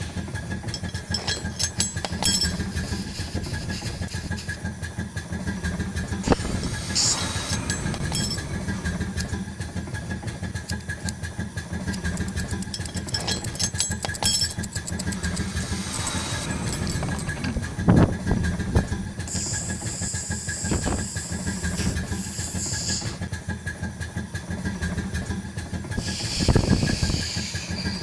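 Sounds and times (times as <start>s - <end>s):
thin steady whine: 0.0s - 23.2s, 26.0s - 28.0s
steam engine chugging: 0.0s - 28.0s.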